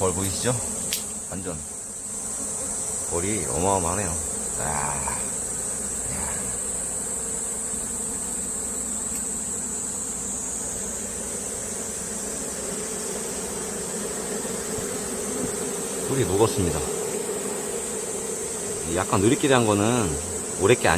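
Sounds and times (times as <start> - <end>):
high-pitched insect whine: 0.0 - 20.9
honeybees buzzing: 0.0 - 20.9.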